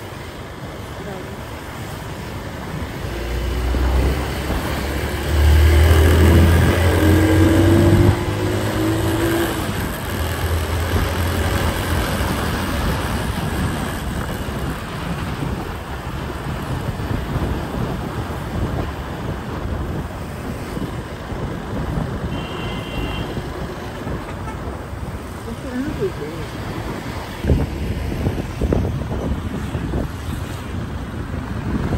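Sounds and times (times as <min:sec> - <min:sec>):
engine and road noise: 0:00.0 - 0:31.9
wind rumble on microphone: 0:00.0 - 0:31.9.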